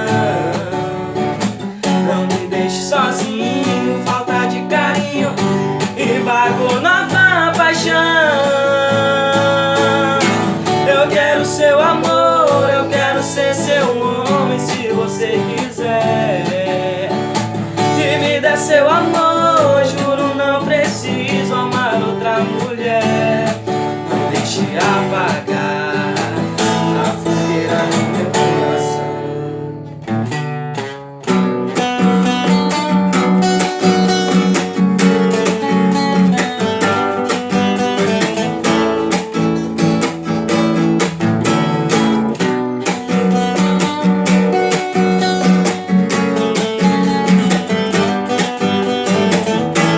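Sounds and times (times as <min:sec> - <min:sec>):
acoustic guitar strumming: 0:00.0 - 0:49.9.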